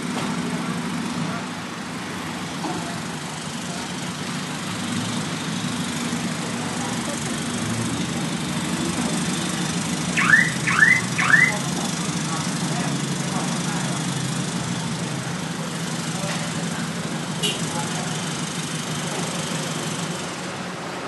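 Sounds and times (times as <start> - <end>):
engine idling: 0.0 - 20.8.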